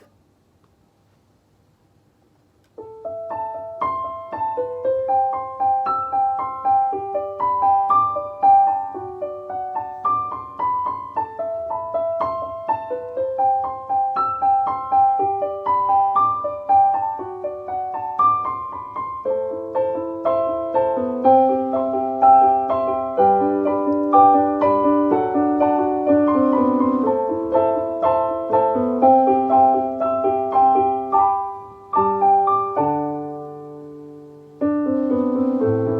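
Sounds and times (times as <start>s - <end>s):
solo piano melody: 2.7s - 35.9s.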